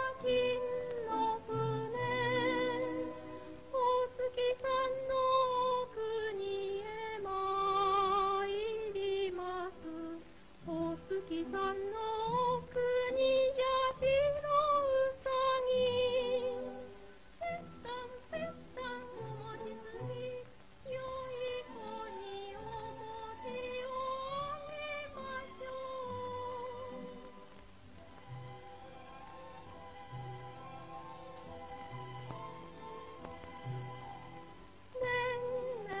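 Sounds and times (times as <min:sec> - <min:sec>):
old film soundtrack music: 0:00.0 - 0:36.0.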